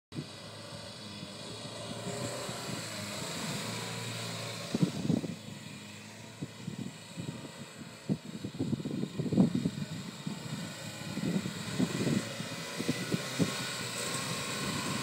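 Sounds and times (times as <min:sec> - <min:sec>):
car engine running hard: 0:00.1 - 0:15.0.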